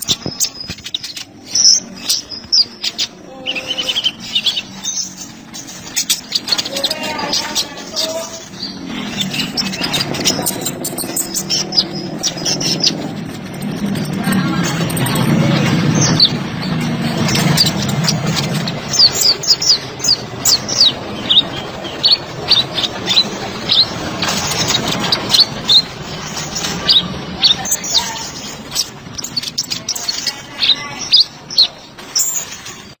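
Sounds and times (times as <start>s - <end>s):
sunbird chirping: 0.0s - 32.9s.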